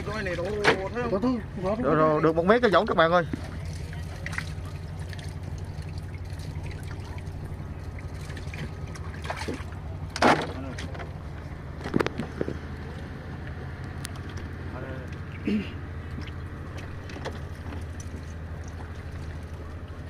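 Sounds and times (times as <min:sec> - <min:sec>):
boat motor humming: 0:00.0 - 0:20.0
water sloshing on deck: 0:00.0 - 0:20.0.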